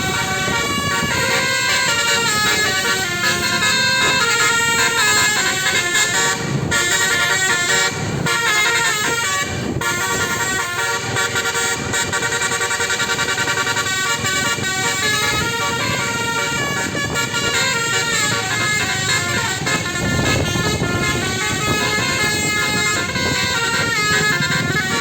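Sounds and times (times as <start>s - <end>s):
musical air horn melody: 0.0s - 25.0s.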